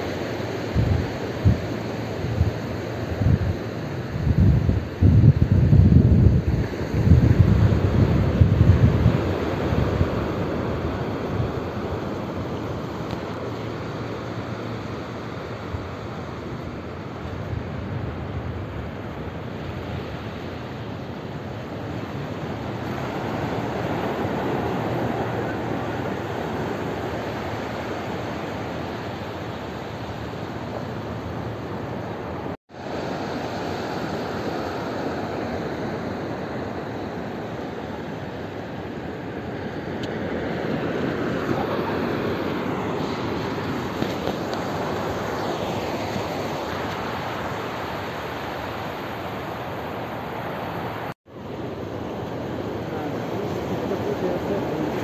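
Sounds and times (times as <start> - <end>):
sea surf on sandy beach: 0.0 - 55.0.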